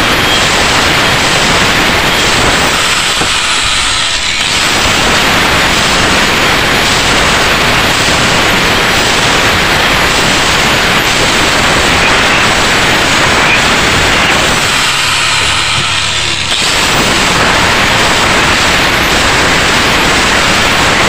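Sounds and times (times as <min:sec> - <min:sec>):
angle grinder grinding metal: 0:00.0 - 0:20.8.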